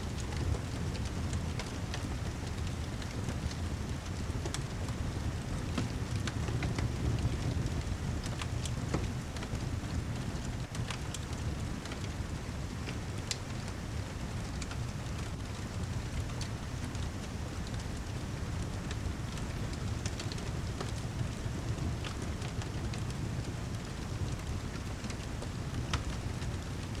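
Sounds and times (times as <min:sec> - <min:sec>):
fireplace crackling and popping: 0:00.1 - 0:27.0
heavy rain: 0:00.1 - 0:27.0.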